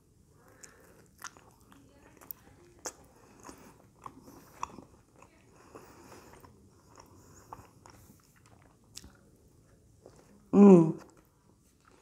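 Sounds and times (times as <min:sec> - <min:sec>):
chewing a soft sandwich: 0:00.0 - 0:12.0.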